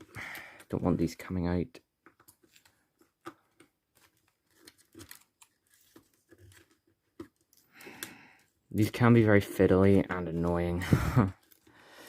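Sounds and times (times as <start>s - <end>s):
faint clicks and rustles of wires: 0.0s - 12.0s.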